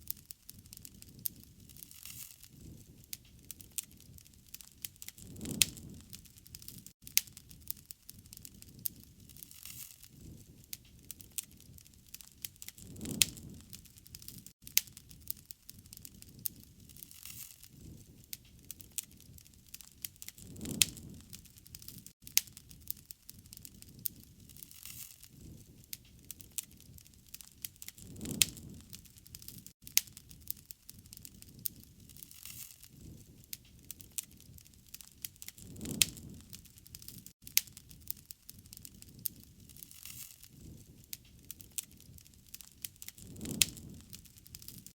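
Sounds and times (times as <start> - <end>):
campfire crackling: 0.0 - 44.9
low rush of flame: 0.0 - 44.9.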